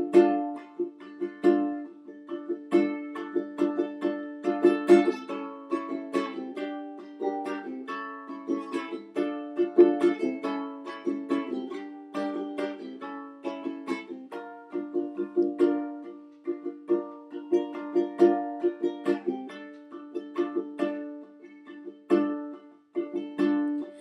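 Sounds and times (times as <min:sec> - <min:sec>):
acoustic plucked-string instrument: 0:00.0 - 0:24.0.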